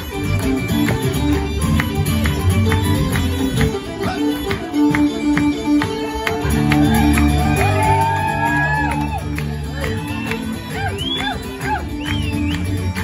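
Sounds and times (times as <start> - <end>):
acoustic guitar strumming: 0.0 - 13.0
fiddle: 0.0 - 13.0.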